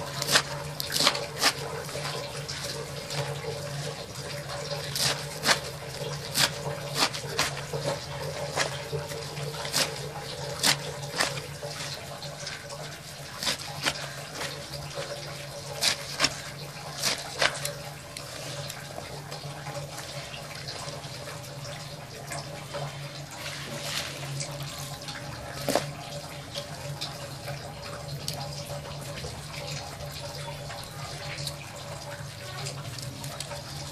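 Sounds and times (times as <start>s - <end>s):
leafy greens rustling and crunching: 0.0s - 21.4s, 22.7s - 27.2s, 32.6s - 33.9s.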